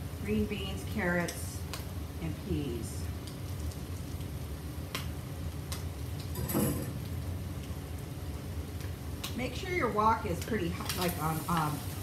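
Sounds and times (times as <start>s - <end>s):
steady low hum: 0.0s - 12.0s
vegetables sizzling in a wok: 0.0s - 12.0s.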